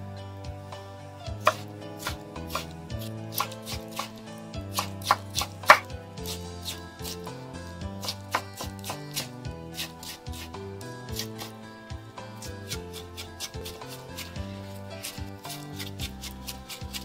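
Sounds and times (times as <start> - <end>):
background music: 0.0 - 17.0
knife chopping on wooden board: 1.3 - 11.6, 12.4 - 17.0.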